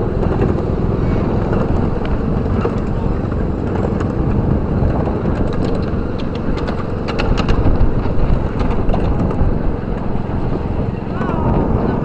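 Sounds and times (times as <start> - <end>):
miniature train rumbling on track: 0.0 - 12.0
sharp clicks and rattles: 0.2 - 10.6.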